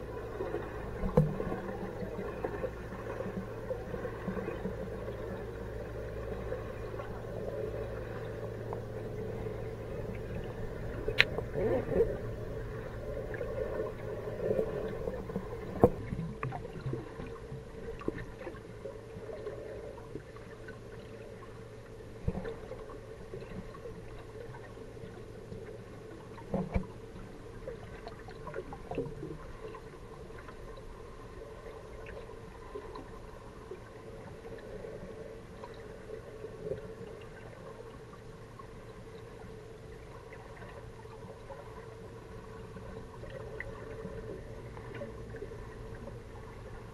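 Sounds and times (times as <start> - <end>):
underwater hum and water noise: 0.0 - 46.9.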